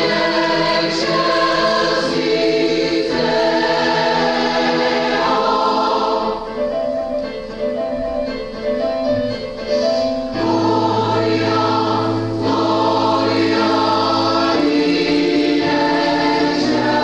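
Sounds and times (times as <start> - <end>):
choir singing sacred music: 0.0 - 6.8, 9.7 - 17.0.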